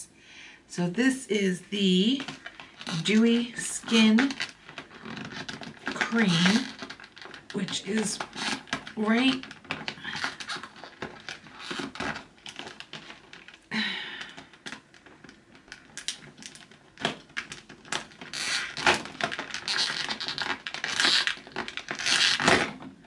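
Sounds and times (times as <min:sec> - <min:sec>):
packaging crinkling and tearing: 0:02.1 - 0:23.0.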